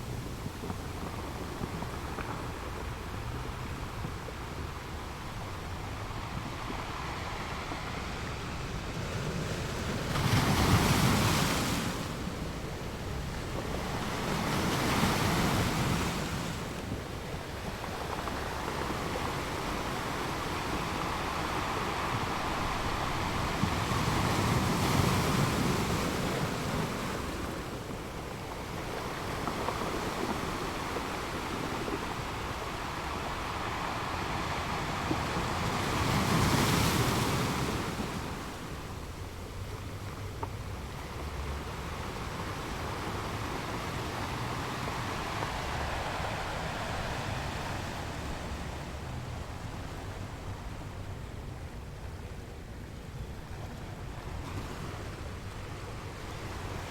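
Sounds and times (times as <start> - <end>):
sea surf washing in: 0.0 - 56.9
waves breaking: 0.0 - 56.9.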